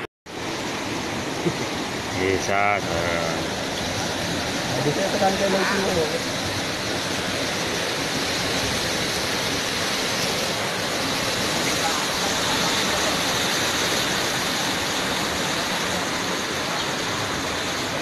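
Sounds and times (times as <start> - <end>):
river water rushing: 0.3 - 18.0.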